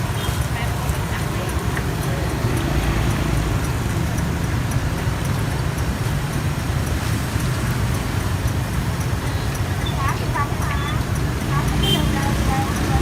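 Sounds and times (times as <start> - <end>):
hot oil sizzling: 0.0 - 13.0
street traffic rumble: 0.0 - 13.0.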